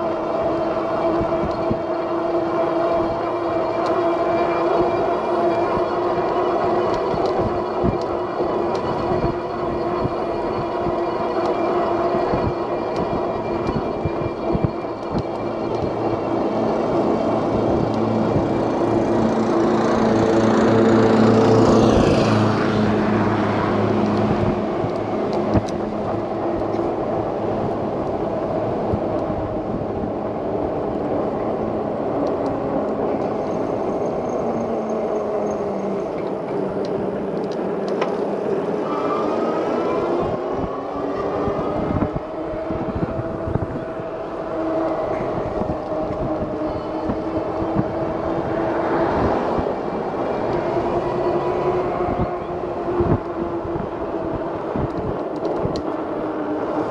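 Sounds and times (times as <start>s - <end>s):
engine hum: 0.0s - 56.9s
passing traffic engines: 0.0s - 56.9s
road noise from moving bike: 0.0s - 56.9s.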